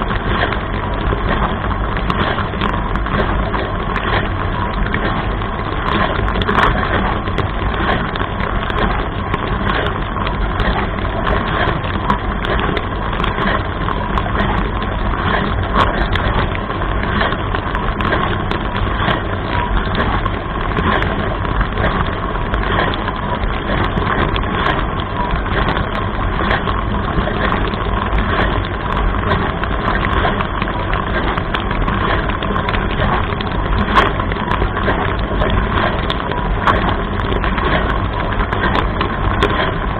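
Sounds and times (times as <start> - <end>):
dishwasher water splashing: 0.0 - 39.9
low dishwasher hum: 0.0 - 39.9
water ticks: 0.0 - 39.9.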